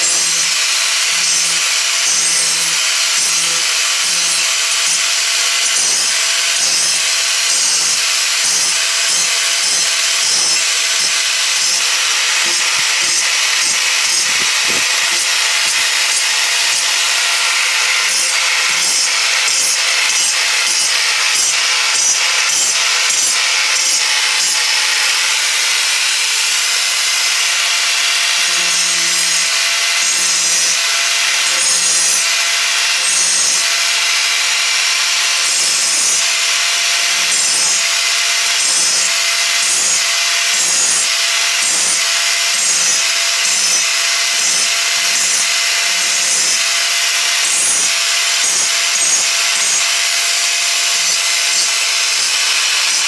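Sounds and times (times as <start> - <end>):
power grinder grinding steel: 0.0 - 53.0.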